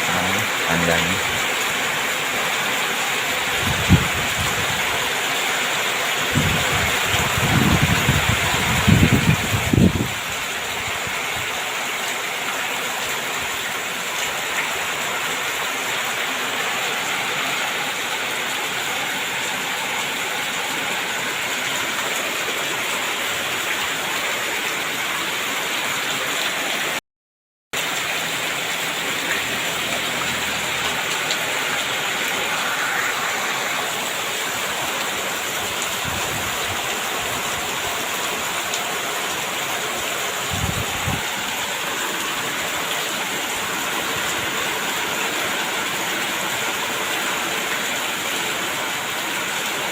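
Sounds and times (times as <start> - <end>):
heavy rain pouring: 0.0 - 27.0, 27.8 - 49.9.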